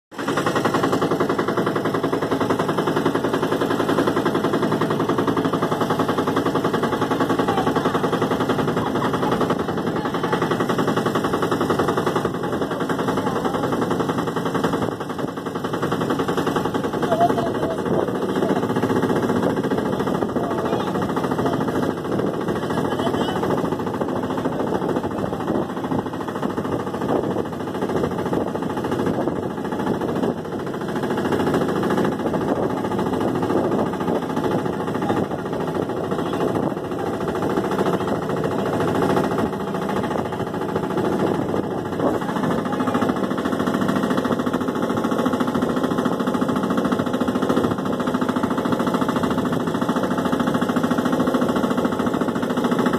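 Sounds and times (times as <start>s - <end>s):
boat motor droning: 0.1s - 52.9s.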